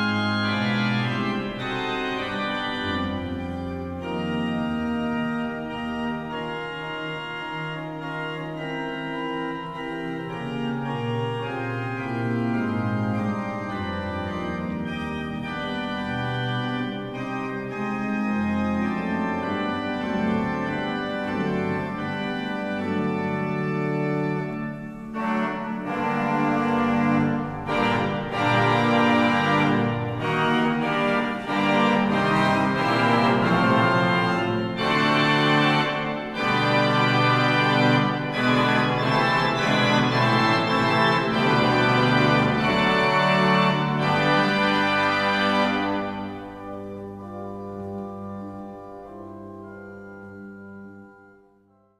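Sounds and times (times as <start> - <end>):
organ playing slow chords: 0.0 - 51.9.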